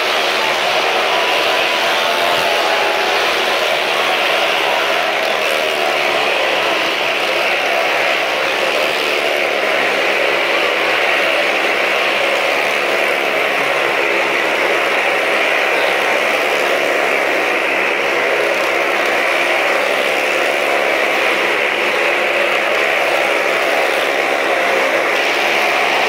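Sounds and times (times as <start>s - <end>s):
motorcycle engines running loud: 0.0s - 26.0s.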